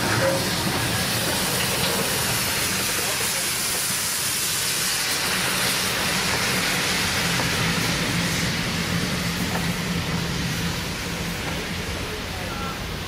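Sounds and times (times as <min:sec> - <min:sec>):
steam hissing: 0:00.0 - 0:13.0
steam locomotive moving off: 0:00.0 - 0:13.0.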